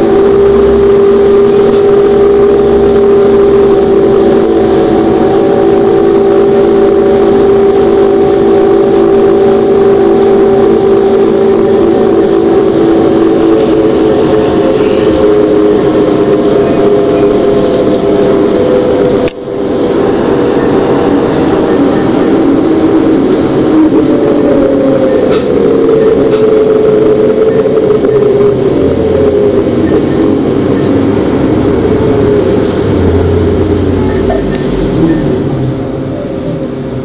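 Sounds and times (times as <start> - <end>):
bus drivetrain and road noise: 0.0 - 37.0
falling pitch whine: 0.0 - 37.0.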